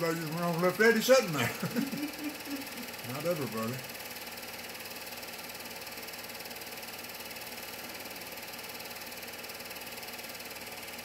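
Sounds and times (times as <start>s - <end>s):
film projector whirring: 0.0s - 11.0s.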